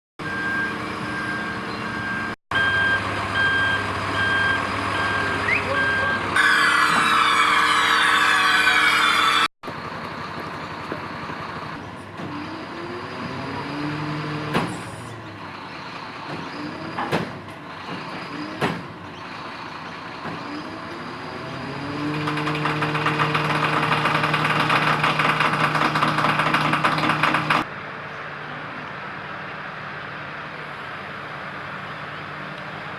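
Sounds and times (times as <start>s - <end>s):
diesel engine revving: 0.2s - 32.9s.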